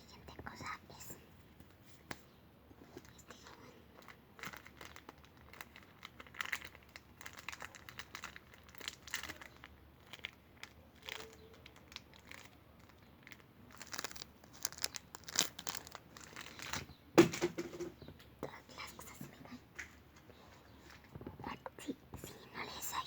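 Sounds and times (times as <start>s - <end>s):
crinkling and crackling: 0.1s - 22.8s.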